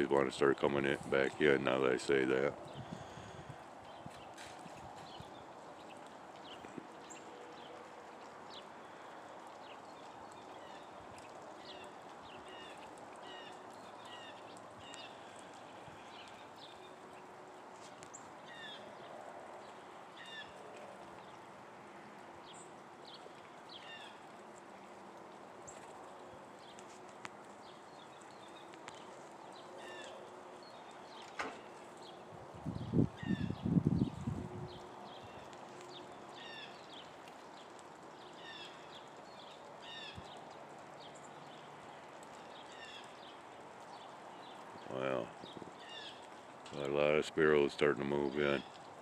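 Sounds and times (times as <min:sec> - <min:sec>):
small birds chirping: 0:00.1 - 0:49.0.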